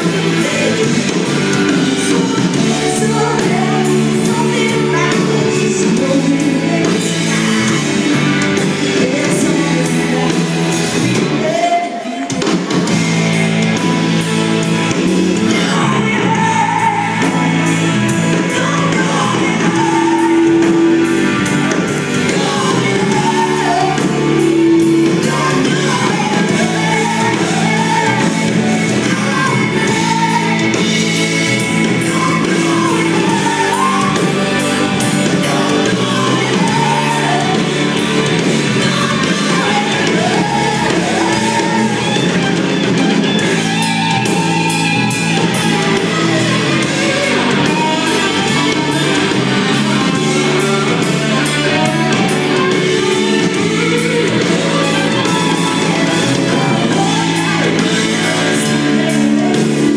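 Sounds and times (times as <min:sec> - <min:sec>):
bass guitar: 0:00.0 - 0:59.9
drums: 0:00.0 - 0:59.9
electric guitars: 0:00.0 - 0:59.9
keyboards: 0:00.0 - 0:59.9
woman singing lead: 0:00.0 - 0:59.9.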